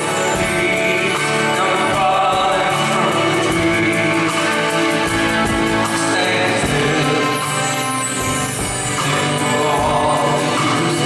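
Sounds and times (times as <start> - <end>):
live band with acoustic guitars: 0.0 - 11.0
person singing: 0.0 - 11.0.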